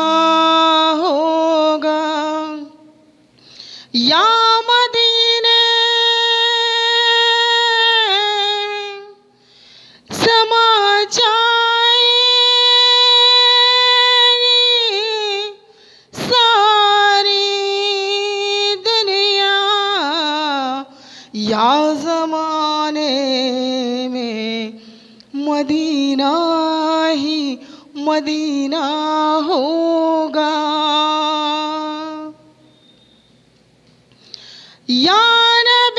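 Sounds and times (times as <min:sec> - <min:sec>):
woman singing unaccompanied: 0:00.0 - 0:03.0, 0:03.9 - 0:09.3, 0:10.1 - 0:32.6, 0:34.8 - 0:35.9.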